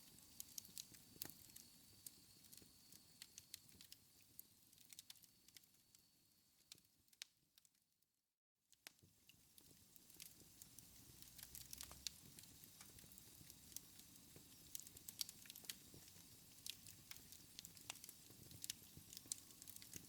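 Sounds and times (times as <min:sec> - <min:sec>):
wood fire crackling: 0:00.0 - 0:06.0, 0:08.8 - 0:20.0.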